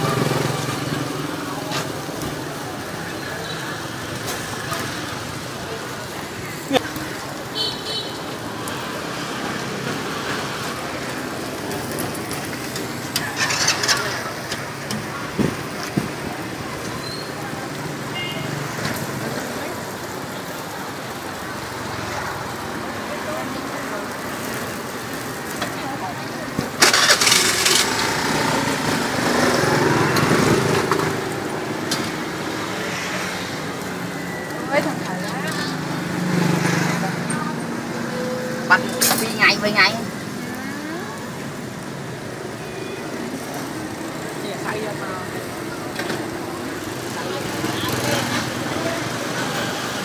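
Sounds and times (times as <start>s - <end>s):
street noise: 0.0s - 50.0s
meat sizzling on a grill: 0.2s - 50.0s.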